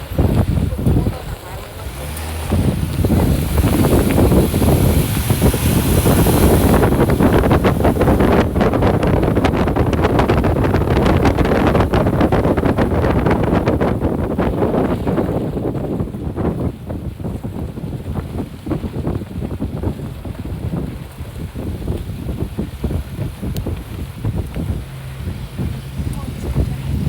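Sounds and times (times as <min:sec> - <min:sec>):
road and wind noise: 0:00.0 - 0:27.0
vehicle knocks and rattles: 0:00.0 - 0:27.0
wind buffeting microphone: 0:00.0 - 0:27.0.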